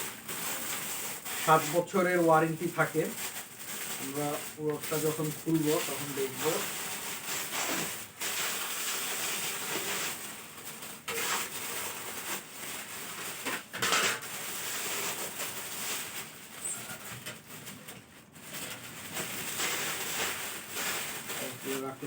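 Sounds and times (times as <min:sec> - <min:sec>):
packaging rustling and crinkling: 0:00.0 - 0:22.0.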